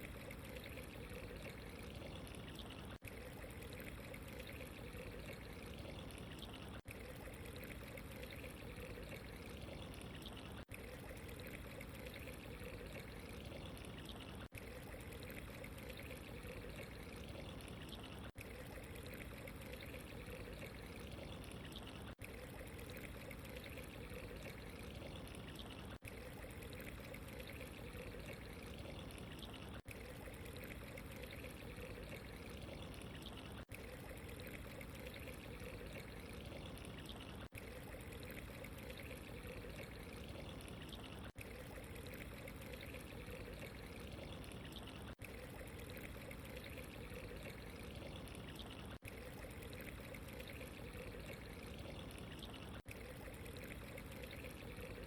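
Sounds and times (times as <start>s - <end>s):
water pouring and trickling: 0.0s - 55.0s.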